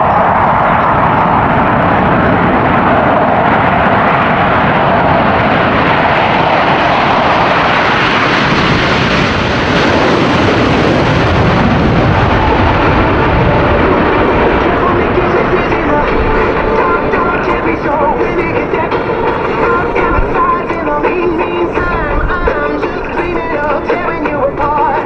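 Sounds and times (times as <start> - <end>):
jets taking off in afterburner: 0.0 - 25.0.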